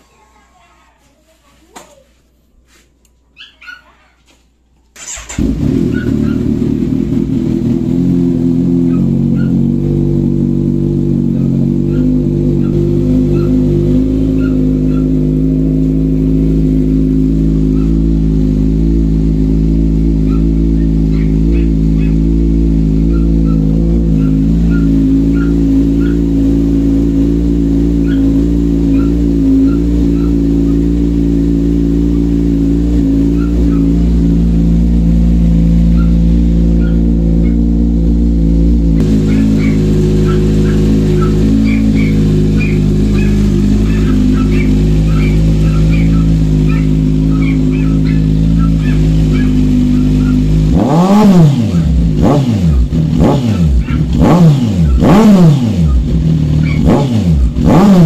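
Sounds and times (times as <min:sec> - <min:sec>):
motorcycle engine idling: 0:04.9 - 0:58.0.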